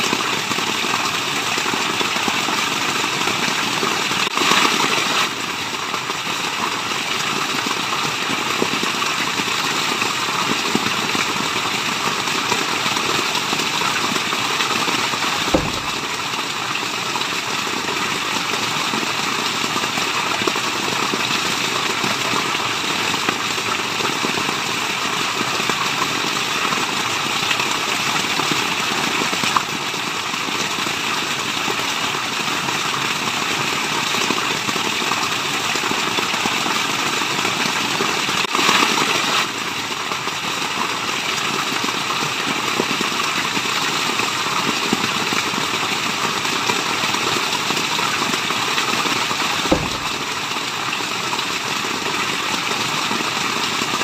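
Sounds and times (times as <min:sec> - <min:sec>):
rushing water hiss: 0:00.0 - 0:54.0.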